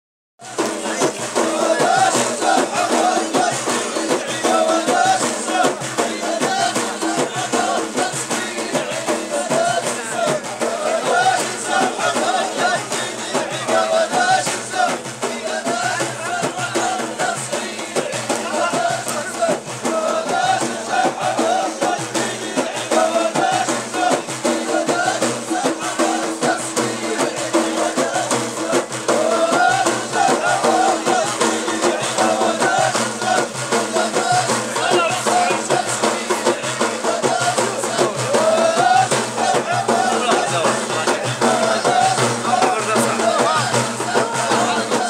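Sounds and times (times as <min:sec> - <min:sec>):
frame drums beating: 0:00.4 - 0:45.0
men singing together: 0:00.4 - 0:45.0.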